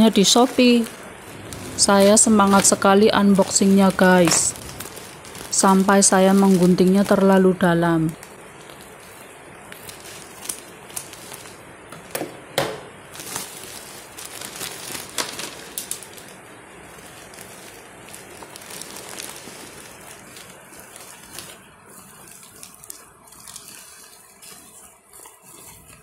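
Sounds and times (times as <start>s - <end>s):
plastic bag crinkling: 0.0s - 12.1s, 13.0s - 26.0s.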